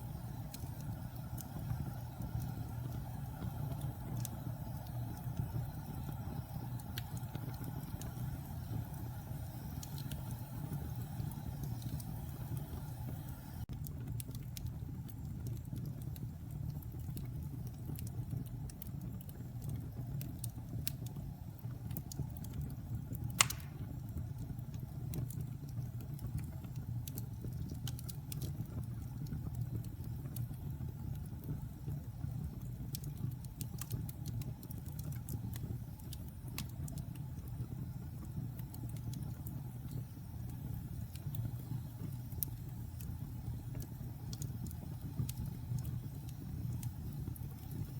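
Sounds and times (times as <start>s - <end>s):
fire popping and snapping: 0.0s - 47.9s
wood fire crackling: 0.0s - 47.9s.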